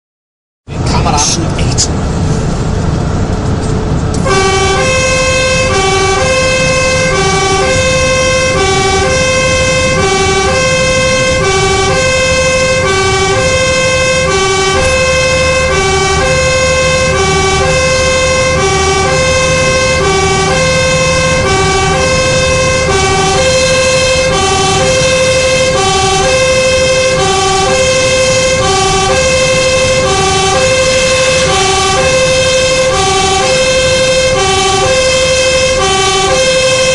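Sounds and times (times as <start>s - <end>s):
road noise: 0.6s - 36.9s
truck engine: 0.6s - 36.9s
two-tone siren: 4.2s - 36.9s.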